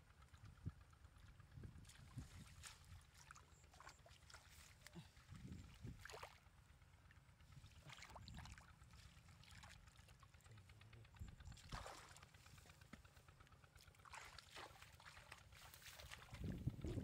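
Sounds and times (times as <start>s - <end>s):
shallow muddy water sloshing: 0.0s - 17.0s.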